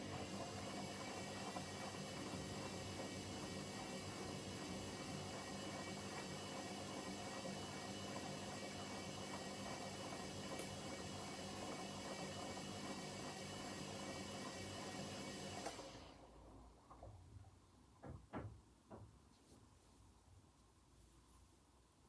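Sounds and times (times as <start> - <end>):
washing machine humming: 0.0 - 18.2.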